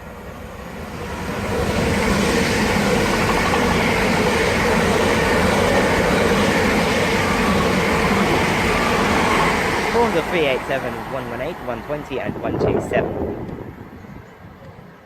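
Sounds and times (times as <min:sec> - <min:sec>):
electric train passing at speed: 0:00.0 - 0:15.0.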